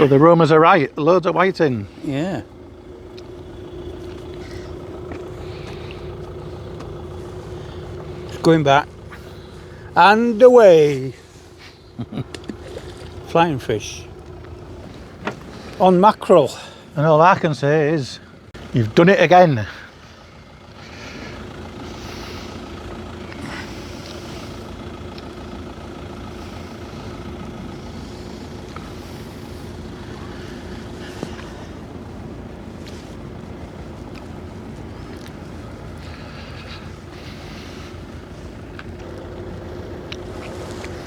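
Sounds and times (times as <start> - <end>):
low engine drone: 0.0 - 41.0.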